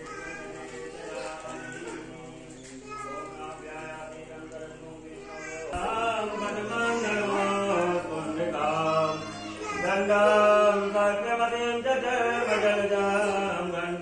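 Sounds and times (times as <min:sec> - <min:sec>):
voices chanting a sung mantra: 0:00.0 - 0:14.0.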